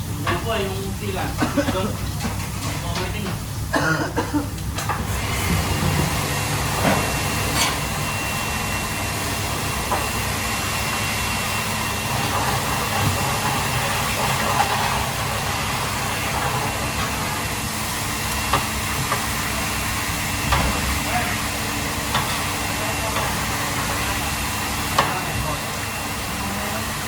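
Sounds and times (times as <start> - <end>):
steady kitchen hiss: 0.0 - 27.0.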